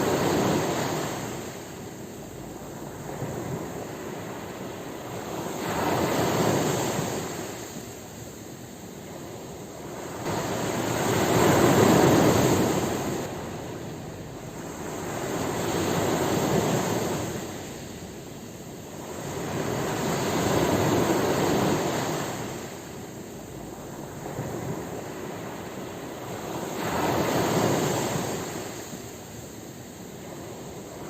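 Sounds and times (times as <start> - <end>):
ocean waves breaking on shore: 0.0 - 31.0.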